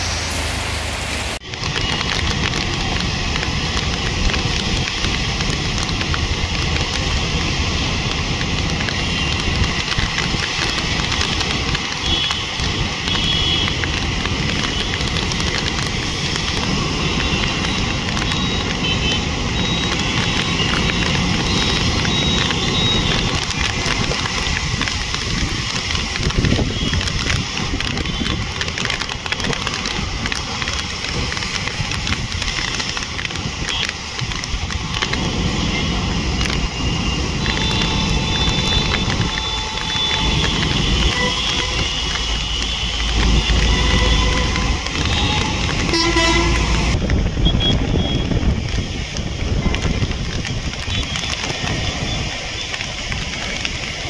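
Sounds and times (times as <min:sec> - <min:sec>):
heavy vehicle rumble: 0:00.0 - 0:54.0
rain hiss: 0:00.0 - 0:54.0
tyres on wet road: 0:00.0 - 0:54.0
vehicle engines running: 0:00.0 - 0:54.0.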